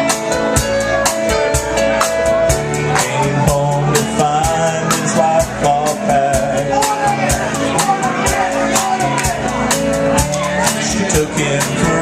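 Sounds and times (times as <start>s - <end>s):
drum kit beat: 0.0s - 12.0s
live rock band playing: 0.0s - 12.0s.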